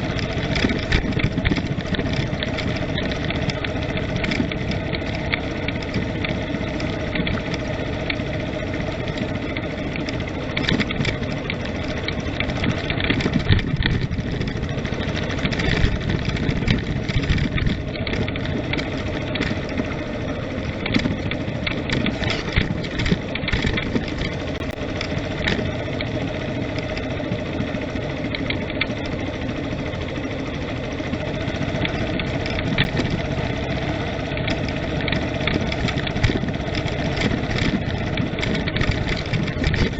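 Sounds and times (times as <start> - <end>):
road rumble: 0.0 - 39.9
vehicle engine hum: 0.0 - 39.9.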